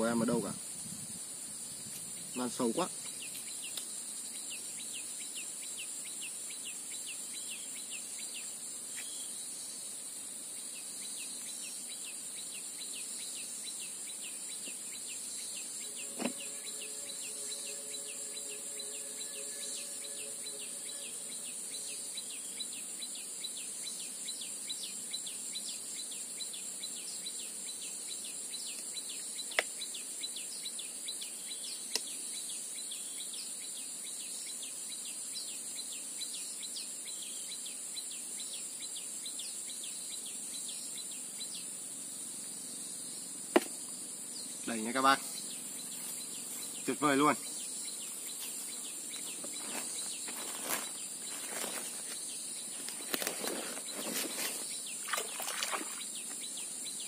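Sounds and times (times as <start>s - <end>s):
insects buzzing and chirping: 0.0s - 57.0s.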